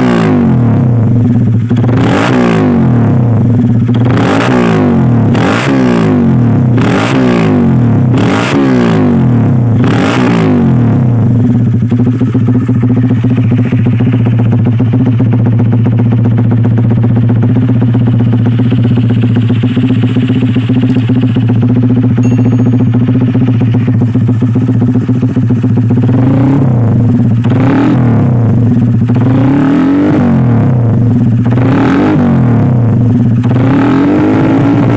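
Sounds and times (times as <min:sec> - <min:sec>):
motorcycle engine revving and idling: 0:00.0 - 0:34.9.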